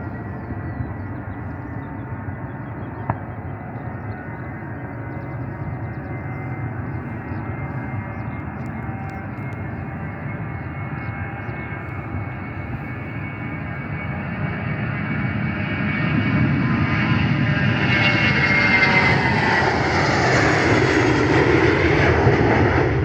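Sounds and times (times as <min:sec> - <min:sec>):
airliner engines rumbling: 0:00.0 - 0:23.0.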